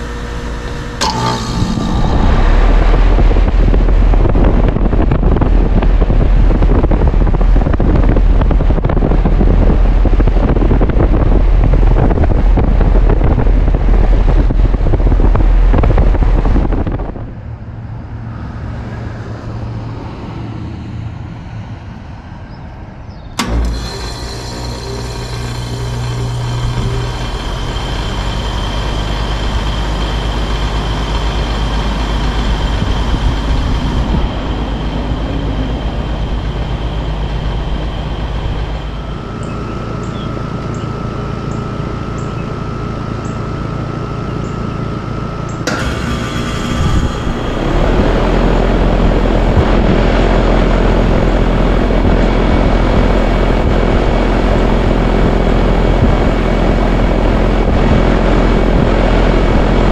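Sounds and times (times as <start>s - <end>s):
compressor kicking on: 0.0s - 17.3s, 23.3s - 59.9s
condenser fan spinning up: 0.0s - 20.4s, 23.3s - 59.9s
air conditioner condensers humming: 0.0s - 59.9s.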